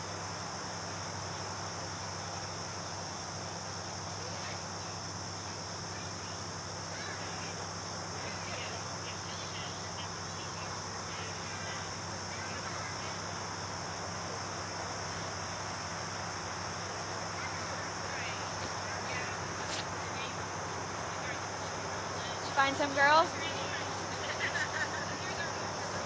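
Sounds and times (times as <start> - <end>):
insects singing: 0.0 - 26.0.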